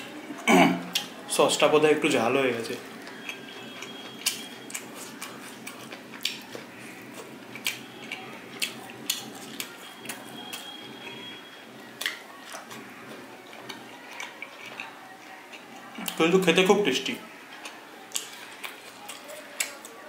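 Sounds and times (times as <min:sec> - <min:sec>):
person chewing with smacks: 0:00.4 - 0:01.2, 0:02.9 - 0:16.3, 0:17.4 - 0:20.0.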